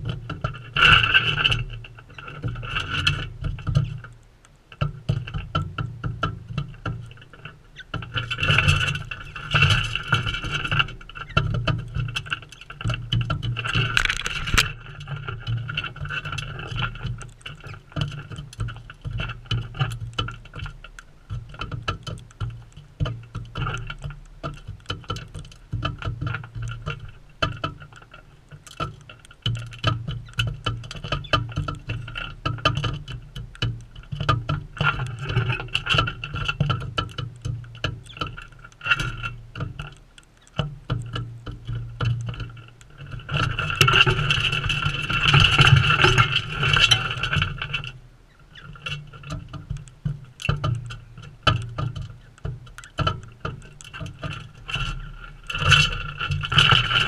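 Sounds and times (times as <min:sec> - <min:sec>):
birds pecking at seed: 0:00.0 - 0:57.0.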